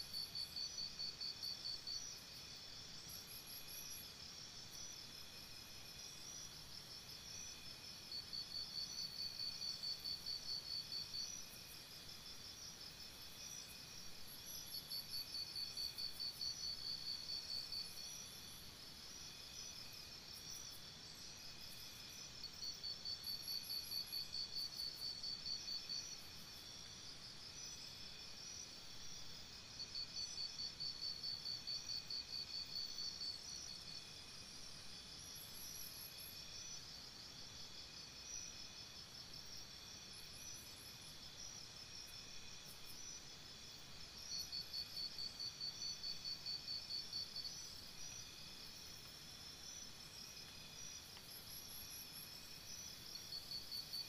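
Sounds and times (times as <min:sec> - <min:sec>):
crickets chirping in chorus: 0:00.0 - 0:54.0.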